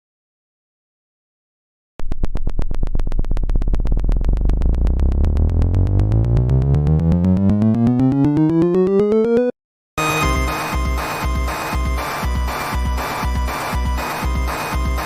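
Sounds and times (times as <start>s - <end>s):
rising synthesized electronic buzz: 2.4s - 15.0s.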